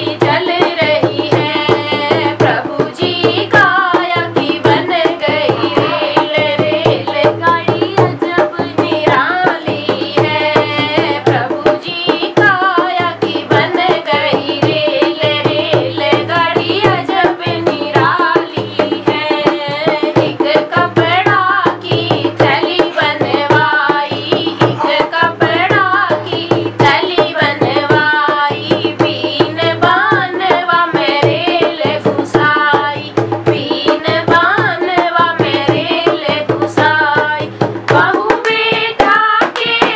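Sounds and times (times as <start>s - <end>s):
barrel drum beat: 0.0s - 39.9s
girl singing: 0.0s - 39.9s.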